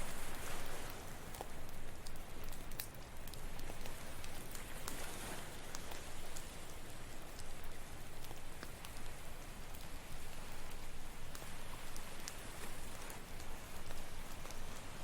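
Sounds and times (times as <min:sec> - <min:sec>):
ocean waves: 0:00.0 - 0:02.5, 0:03.1 - 0:15.0
campfire crackling and popping: 0:00.0 - 0:15.0.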